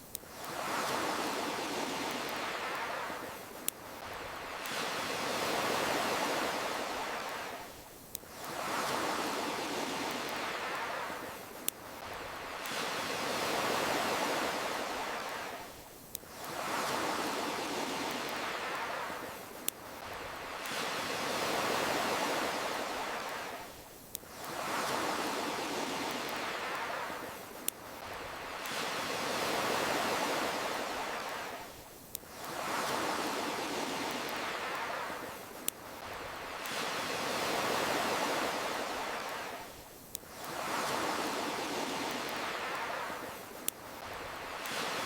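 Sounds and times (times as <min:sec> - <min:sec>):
campfire crackle: 0:00.0 - 0:45.0
ocean waves washing in and out: 0:00.0 - 0:45.0.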